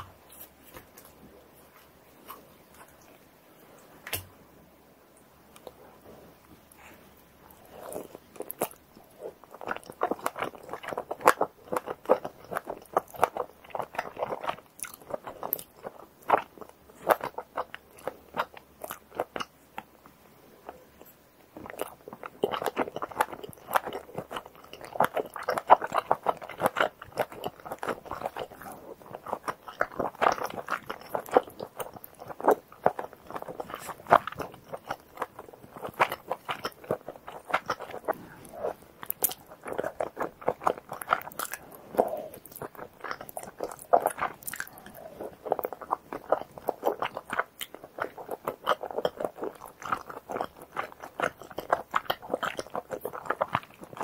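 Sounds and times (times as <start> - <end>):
close-up chewing: 5.6 - 54.0.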